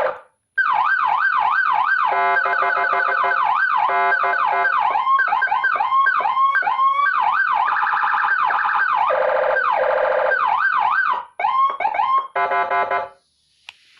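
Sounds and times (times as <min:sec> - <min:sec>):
electronic siren yelps and whoops: 0:00.0 - 0:12.8.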